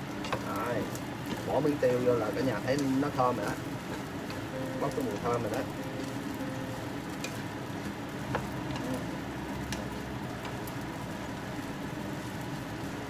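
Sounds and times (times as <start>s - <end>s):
rice sizzling in a pan: 0.0s - 13.0s.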